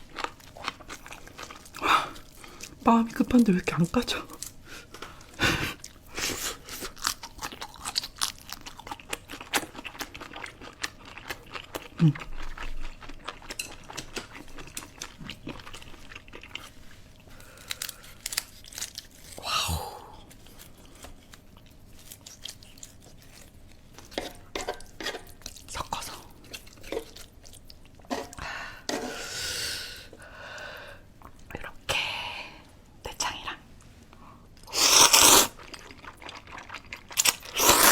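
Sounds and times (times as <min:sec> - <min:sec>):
food being chewed and crunched: 0:00.0 - 0:19.5, 0:20.1 - 0:28.4, 0:34.6 - 0:37.9.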